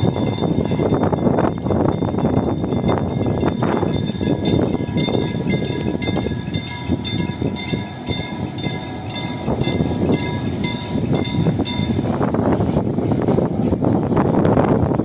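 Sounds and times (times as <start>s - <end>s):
level-crossing bell ringing: 0.0s - 12.4s
diesel locomotive rumble: 0.0s - 15.0s.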